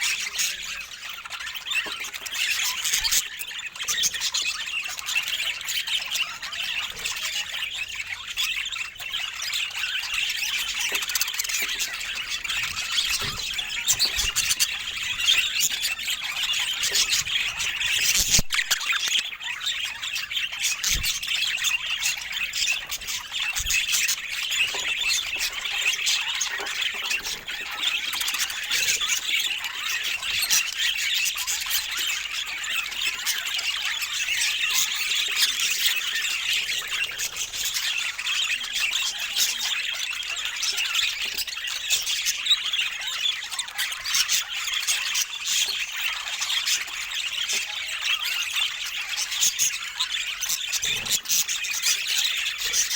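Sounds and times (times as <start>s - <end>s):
budgerigars chattering and squawking: 0.0s - 52.9s.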